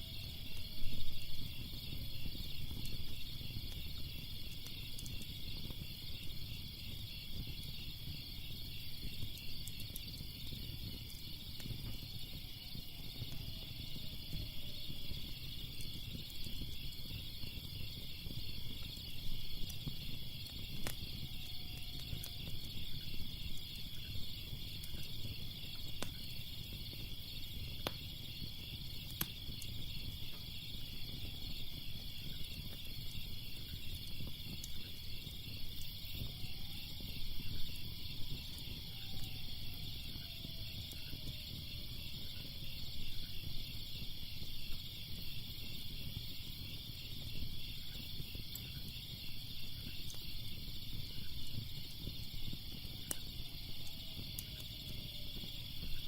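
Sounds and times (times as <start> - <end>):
crickets chirping: 0.0 - 56.0
wood fire crackles: 0.0 - 56.0.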